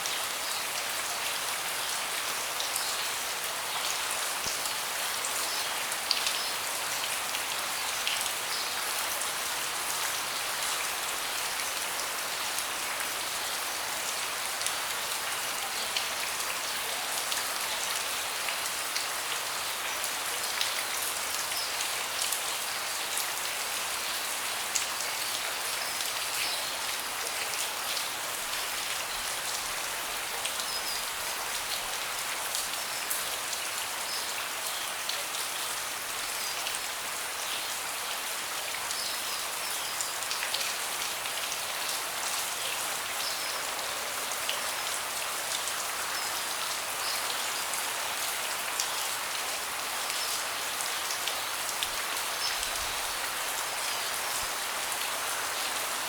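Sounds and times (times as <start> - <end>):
rain falling on a deck: 0.0 - 56.0.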